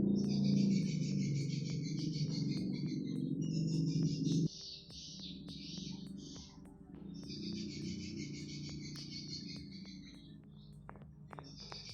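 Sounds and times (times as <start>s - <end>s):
soft background music: 0.0s - 11.9s.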